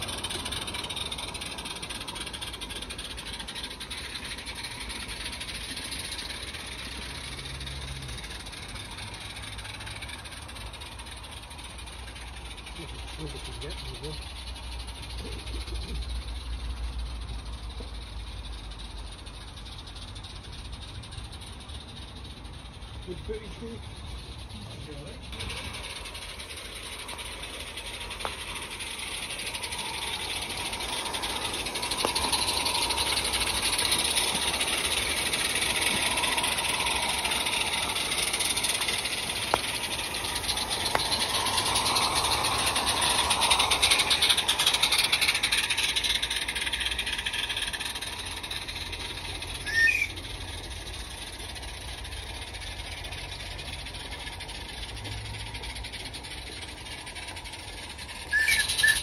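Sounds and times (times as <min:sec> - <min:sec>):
small steam locomotive hissing and rattling: 0:00.0 - 0:59.0.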